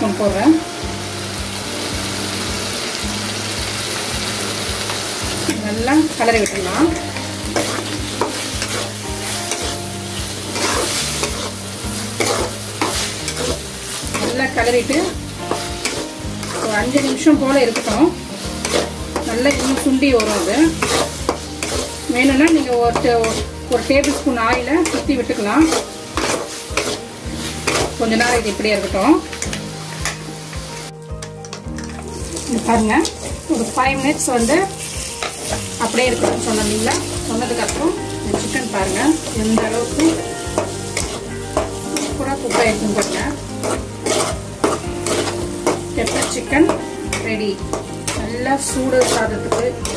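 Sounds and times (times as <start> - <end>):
oil sizzling: 0.0 - 49.9
metal spoon scraping pan: 5.4 - 30.2, 31.2 - 49.9.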